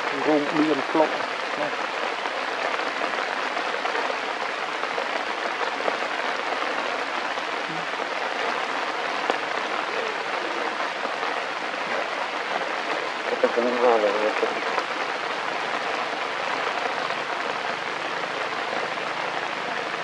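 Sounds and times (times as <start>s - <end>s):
rain pattering on foliage: 0.0s - 20.0s.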